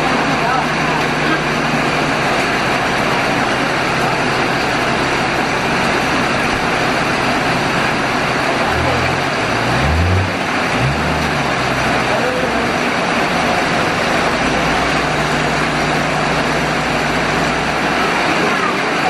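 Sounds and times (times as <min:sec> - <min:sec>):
heavy rain: 0:00.0 - 0:19.0
vehicle engine running: 0:00.0 - 0:19.0.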